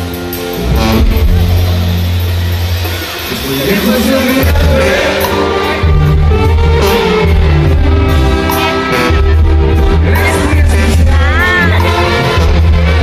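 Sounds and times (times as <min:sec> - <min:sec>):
band music: 0:00.0 - 0:13.0
drum kit and cymbals: 0:00.0 - 0:13.0
tuba bass line: 0:00.0 - 0:13.0.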